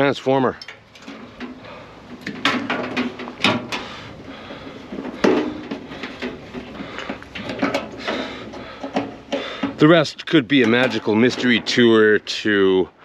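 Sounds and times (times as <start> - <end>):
metal scraping and rattling: 0.0 - 12.4
metal knocks and clanks: 0.6 - 9.9, 10.5 - 12.0.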